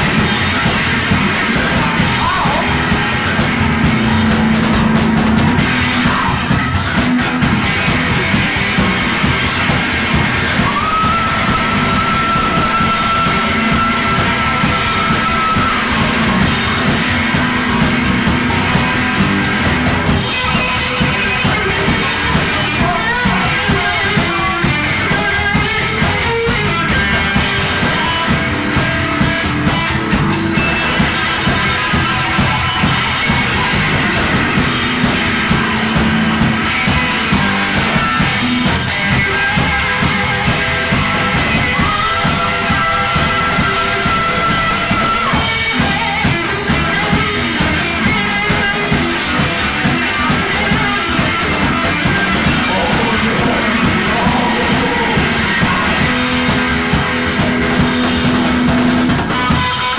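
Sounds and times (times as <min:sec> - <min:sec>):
electric guitar: 0:00.0 - 0:59.9
live rock band playing: 0:00.0 - 0:59.9.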